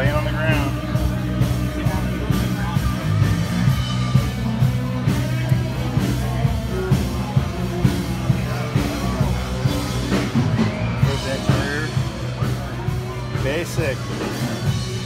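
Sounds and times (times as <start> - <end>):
rock music: 0.0 - 15.0
steady drum beat: 0.0 - 15.0
sustained bass line: 0.0 - 15.0.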